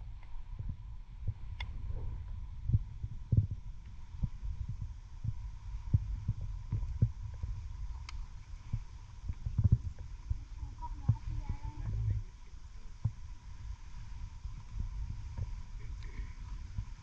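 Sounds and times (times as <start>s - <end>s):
faint steady tone: 0.0s - 17.0s
low underwater rumble: 0.0s - 17.0s.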